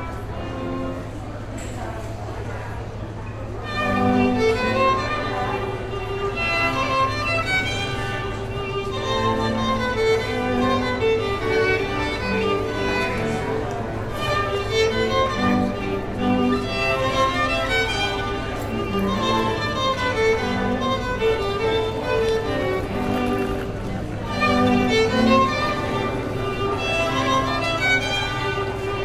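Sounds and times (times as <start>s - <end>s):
classical string music: 0.0s - 29.0s.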